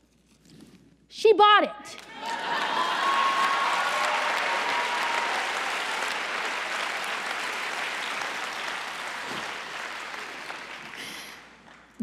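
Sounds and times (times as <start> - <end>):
large audience applauding: 2.0 - 12.0.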